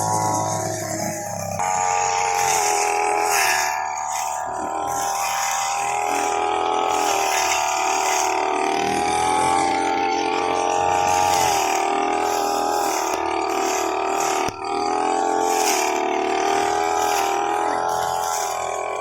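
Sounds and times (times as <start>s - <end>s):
lawn mower motor running: 0.0s - 19.0s.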